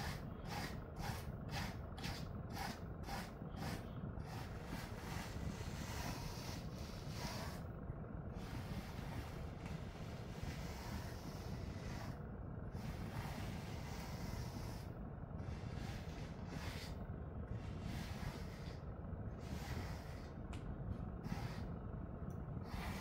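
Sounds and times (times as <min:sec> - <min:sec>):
brush rasping through dog fur: 0:00.0 - 0:07.6, 0:08.4 - 0:12.2, 0:12.8 - 0:17.0, 0:17.7 - 0:18.8, 0:19.4 - 0:20.3, 0:21.2 - 0:21.7, 0:22.6 - 0:23.0
steady low rumble: 0:00.0 - 0:23.0.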